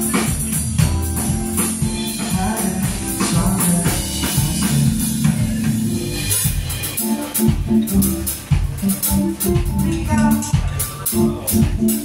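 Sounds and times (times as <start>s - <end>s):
drum kit strokes: 0.0s - 12.0s
guitar: 0.0s - 12.0s
keyboard: 0.0s - 12.0s.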